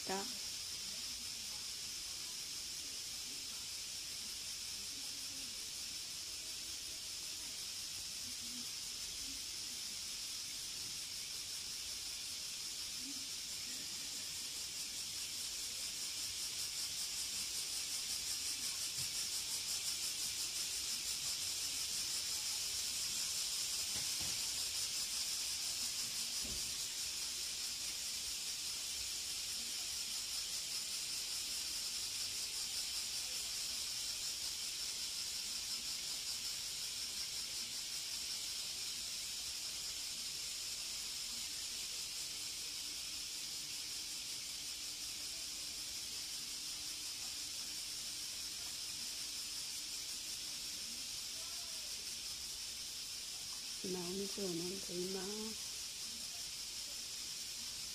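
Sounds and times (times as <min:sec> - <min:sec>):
high-pitched outdoor hiss: 0:00.0 - 0:57.9.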